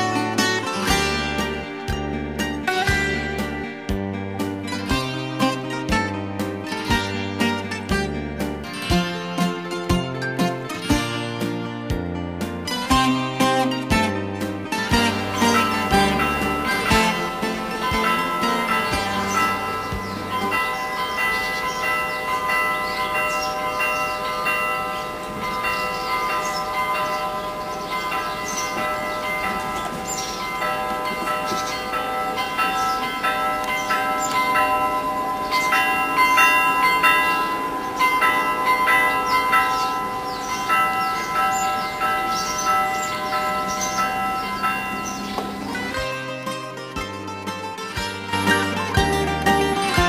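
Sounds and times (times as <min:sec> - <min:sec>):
church bells ringing: 0:00.0 - 0:11.8, 0:12.7 - 0:50.0.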